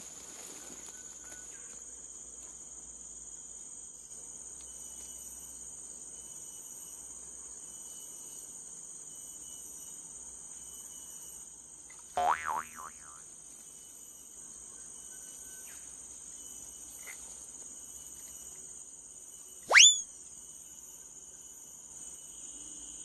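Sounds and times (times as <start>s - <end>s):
high-pitched insect chorus: 0.0s - 23.0s
higher pulsing insect call: 0.0s - 23.0s.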